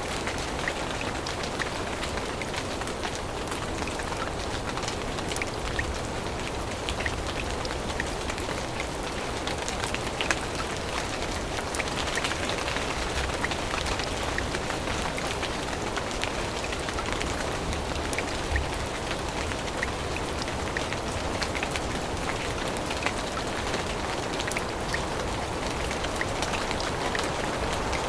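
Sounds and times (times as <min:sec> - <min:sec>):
rain falling on leaves: 0:00.0 - 0:28.0.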